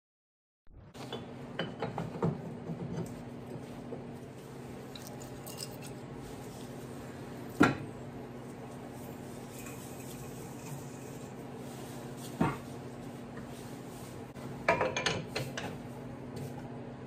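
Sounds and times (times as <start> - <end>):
steady machine hum: 0.8 - 17.0.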